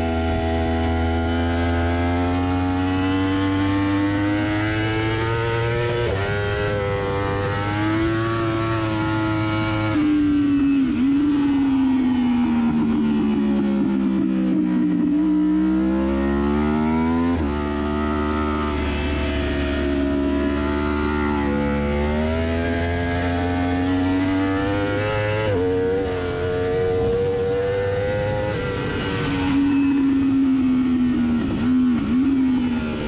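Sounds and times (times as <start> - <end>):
motorcycle engine at race pace: 0.0 - 33.0.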